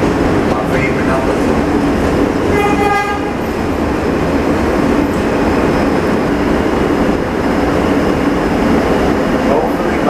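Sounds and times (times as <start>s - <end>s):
subway train rumbling on track: 0.0s - 10.0s.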